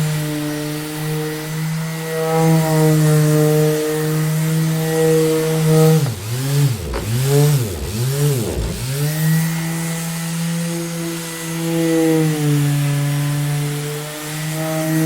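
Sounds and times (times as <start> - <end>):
orbital sander running: 0.0 - 15.0.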